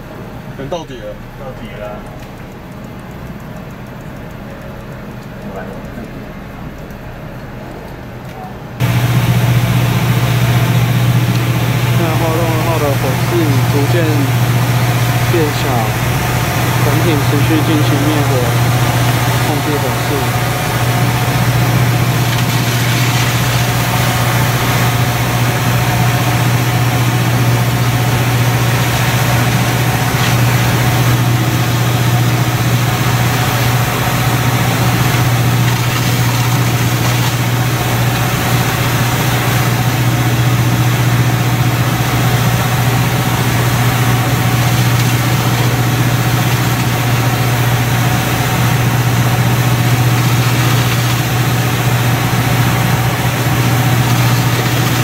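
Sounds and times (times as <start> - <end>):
boat engine and pump drone: 0.0 - 55.0
water cannon hiss: 8.8 - 40.5, 42.2 - 55.0.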